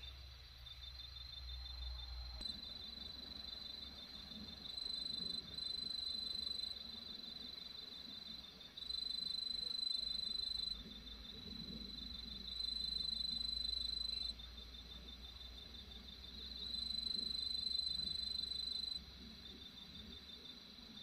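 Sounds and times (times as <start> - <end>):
faint pulsing cricket trill: 0.0 - 21.0.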